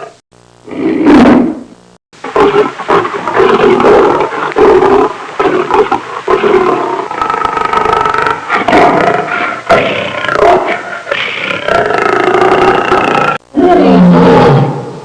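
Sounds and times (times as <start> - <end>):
lion roaring and growling: 2.3 - 14.9.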